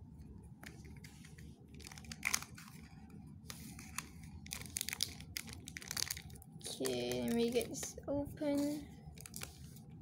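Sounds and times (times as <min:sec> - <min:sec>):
plastic packaging crinkling and tearing: 0:00.9 - 0:09.9.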